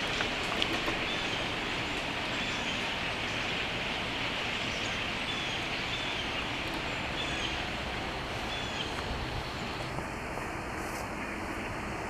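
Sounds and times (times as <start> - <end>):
flock of small birds chattering: 0.0 - 12.0.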